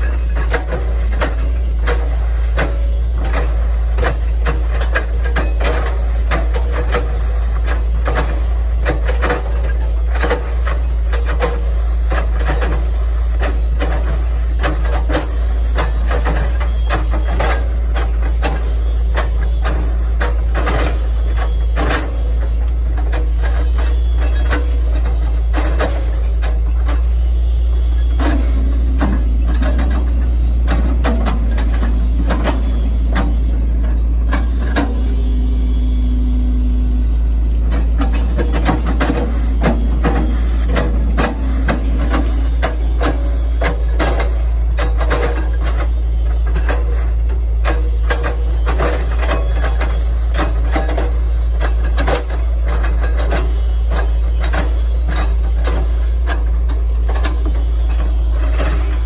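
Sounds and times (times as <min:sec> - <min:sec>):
excavator diesel engine rumble: 0:00.0 - 0:59.0.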